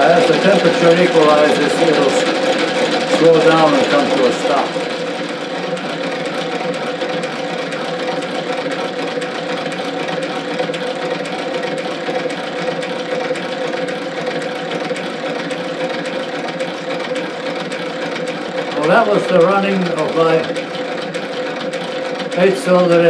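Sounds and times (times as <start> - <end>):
engine mechanical clatter: 0.0 - 23.0
steady engine hum: 0.0 - 23.0.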